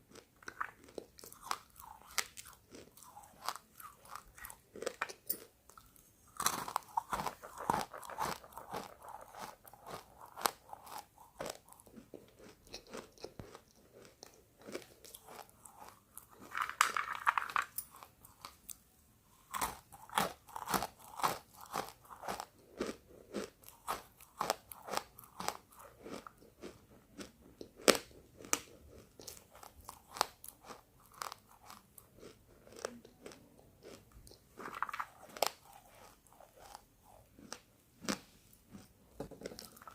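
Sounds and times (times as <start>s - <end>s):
chalk crunching when chewed: 0.1s - 16.7s, 19.5s - 38.9s.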